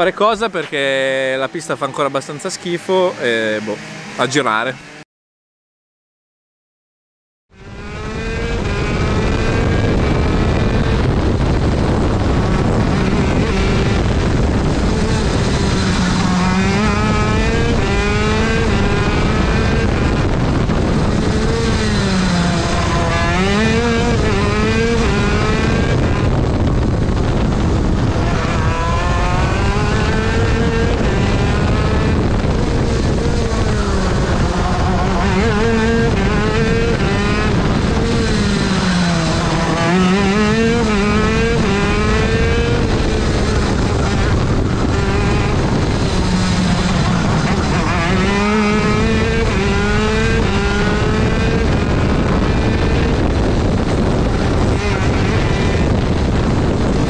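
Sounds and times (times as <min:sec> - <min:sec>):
kart engine accelerating: 0:00.0 - 0:05.0, 0:07.6 - 0:57.0.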